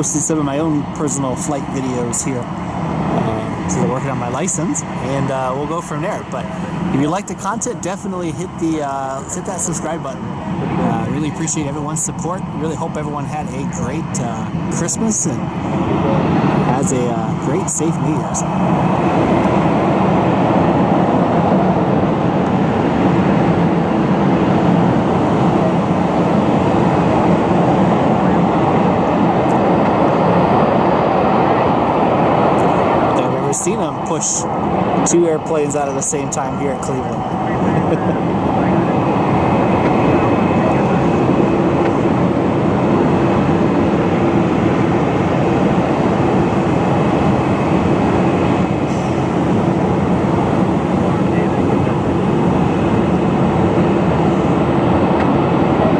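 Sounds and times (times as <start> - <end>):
faint steady hum: 0.0 - 55.9
faint turbine whine: 0.0 - 55.9
jet engines rumbling: 0.0 - 55.9.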